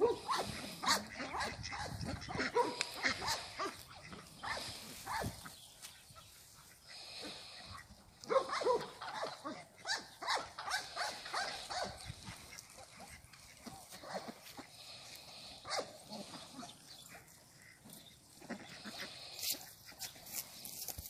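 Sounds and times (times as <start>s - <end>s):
ducks and geese calling: 0.0s - 21.0s.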